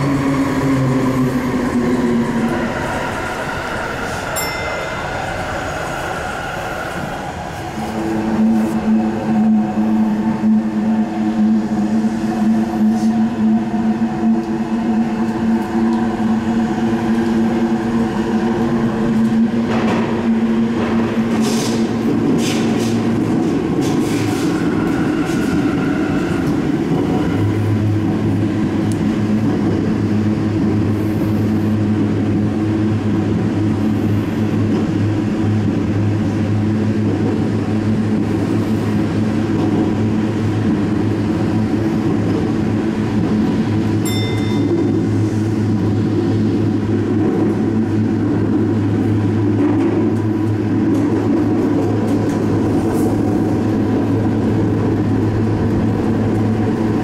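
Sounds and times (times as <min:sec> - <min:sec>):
train running drone: 0:00.0 - 0:57.0.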